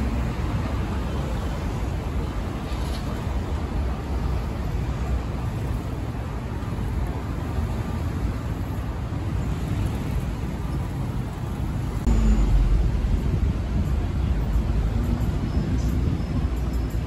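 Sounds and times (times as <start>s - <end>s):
low traffic rumble: 0.0s - 17.0s
road traffic: 0.0s - 17.0s.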